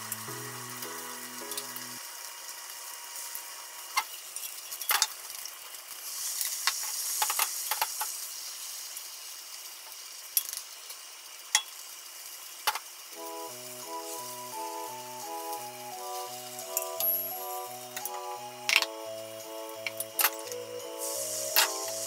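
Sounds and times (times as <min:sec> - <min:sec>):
egg sizzling in pan: 0:00.0 - 0:22.0.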